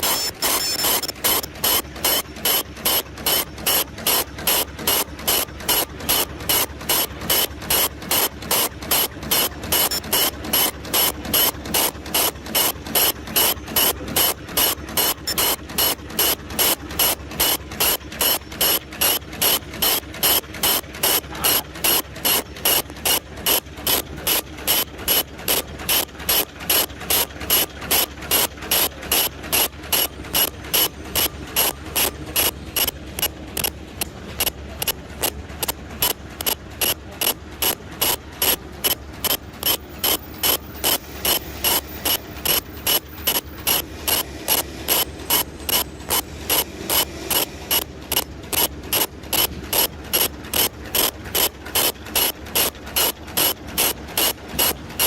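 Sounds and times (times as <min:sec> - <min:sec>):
machine clacking: 0:00.0 - 0:55.0.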